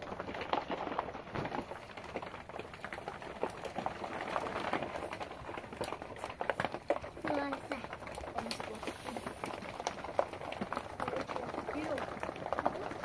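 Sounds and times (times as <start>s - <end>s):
heavy rain on roof: 0.0s - 13.0s.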